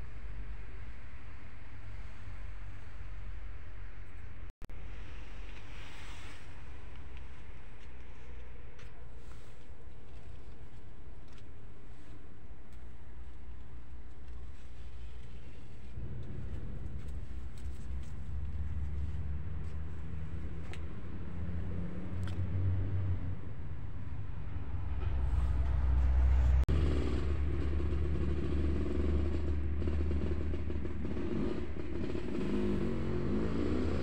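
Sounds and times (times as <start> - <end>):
low engine rumble: 0.0 - 34.0.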